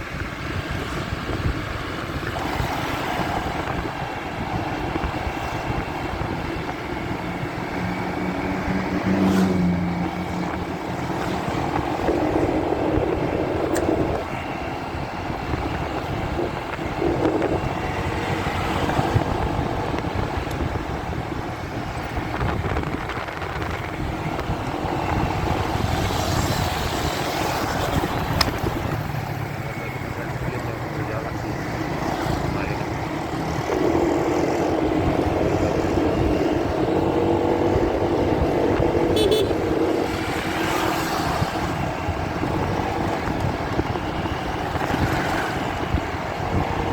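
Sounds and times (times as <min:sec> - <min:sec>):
motorcycle engine: 0:00.0 - 0:46.9
traffic: 0:00.0 - 0:46.9
wind: 0:00.0 - 0:46.9.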